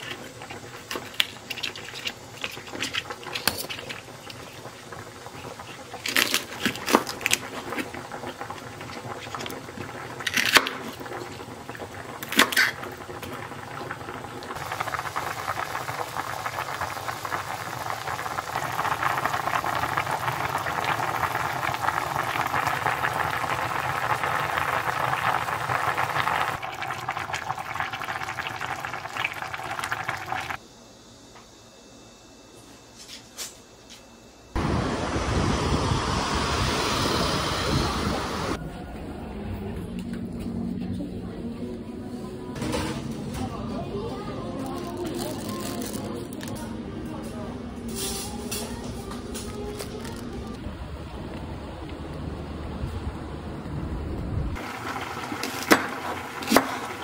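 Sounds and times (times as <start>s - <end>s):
stew boiling and bubbling: 0.0s - 30.6s, 34.5s - 47.0s, 47.8s - 57.0s.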